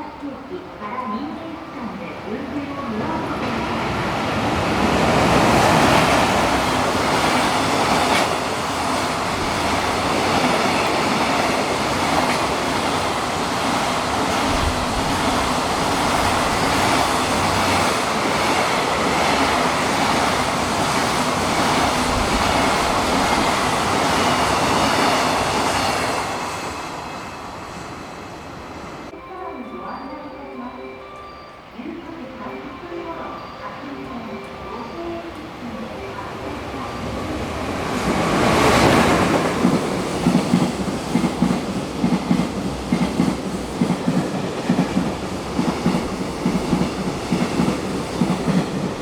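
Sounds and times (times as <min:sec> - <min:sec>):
freight train passing: 0:00.0 - 0:49.0.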